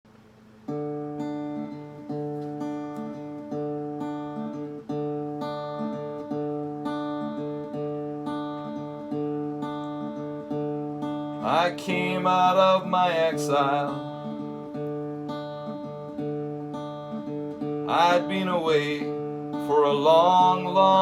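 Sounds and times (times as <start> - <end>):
acoustic guitar chords: 0.1 - 21.0.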